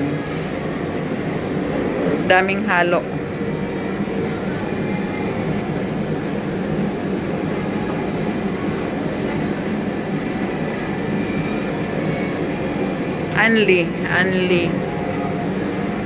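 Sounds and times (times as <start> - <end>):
air conditioning hum: 0.0 - 16.0.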